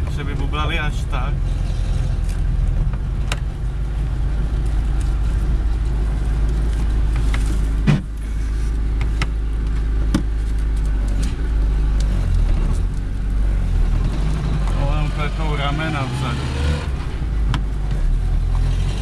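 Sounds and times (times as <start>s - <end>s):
car engine drone from cabin: 0.0s - 19.0s.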